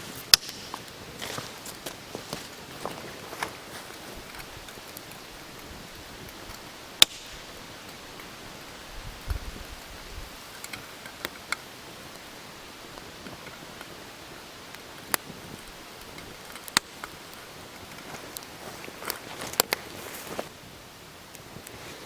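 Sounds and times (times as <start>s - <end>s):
campfire hissing: 0.0s - 22.0s
fire crackling pops: 0.0s - 22.0s.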